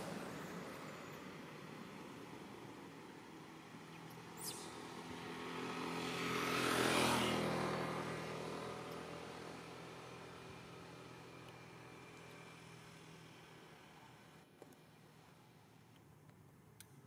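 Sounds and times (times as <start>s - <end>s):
vehicle passing by: 0.0s - 14.1s.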